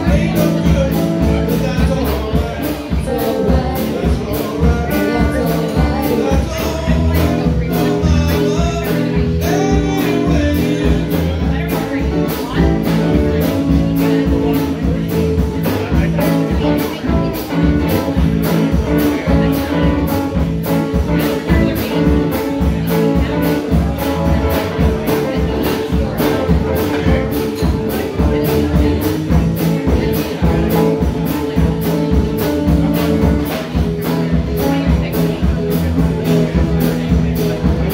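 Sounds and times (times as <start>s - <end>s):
blues-rock band playing: 0.0s - 37.9s.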